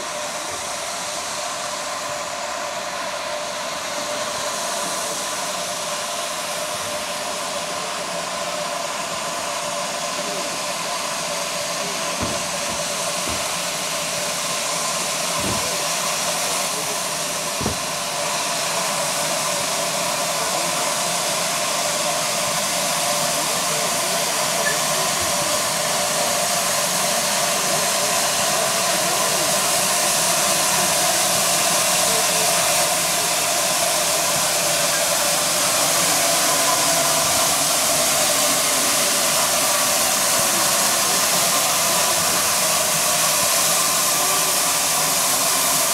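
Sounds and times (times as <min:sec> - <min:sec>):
steam locomotive hissing: 0:00.0 - 0:45.9.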